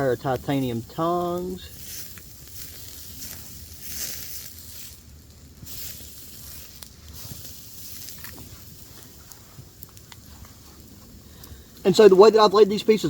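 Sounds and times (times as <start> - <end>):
steak sizzling on a grill: 0.0 - 11.2
low wind rumble: 0.0 - 13.0
small crackles of coals: 0.0 - 13.0.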